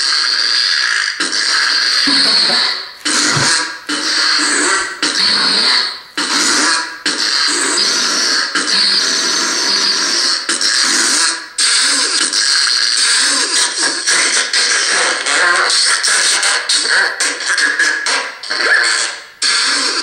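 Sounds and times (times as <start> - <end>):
fart noises: 0.0 - 12.4, 14.6 - 20.0.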